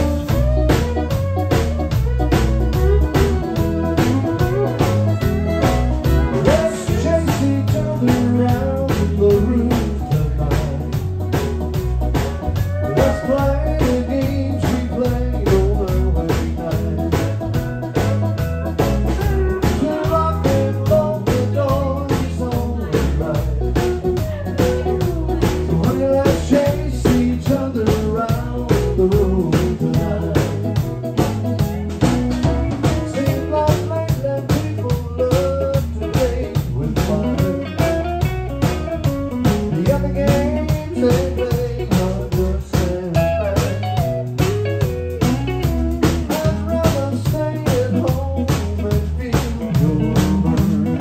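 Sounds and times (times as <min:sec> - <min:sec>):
country band playing: 0:00.0 - 0:51.0
fiddle melody: 0:00.0 - 0:51.0.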